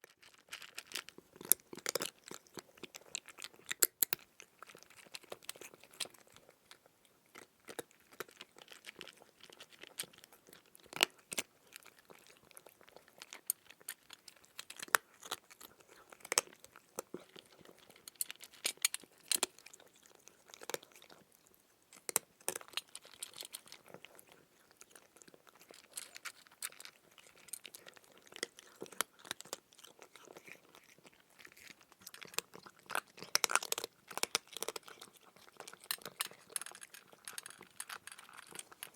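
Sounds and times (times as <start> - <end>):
crunchy chewing of crisp food: 0.0 - 38.9.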